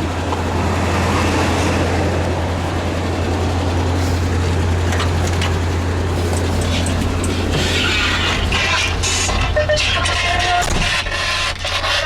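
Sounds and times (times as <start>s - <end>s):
truck engine droning in cab: 0.0s - 12.0s.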